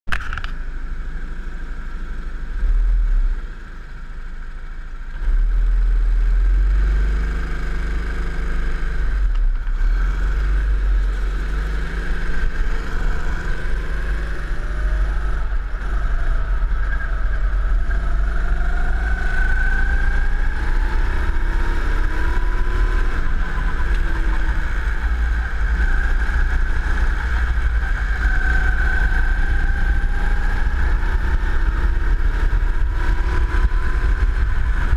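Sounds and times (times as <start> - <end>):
go-kart engine: 0.1 - 34.9.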